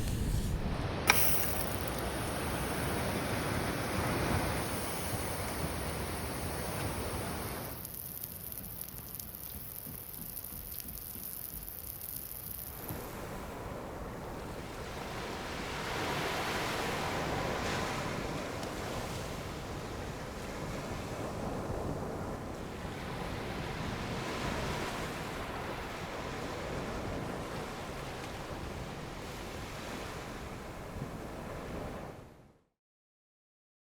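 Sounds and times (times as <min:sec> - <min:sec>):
ocean surf washing on beach: 0:00.0 - 0:10.5, 0:12.8 - 0:32.2.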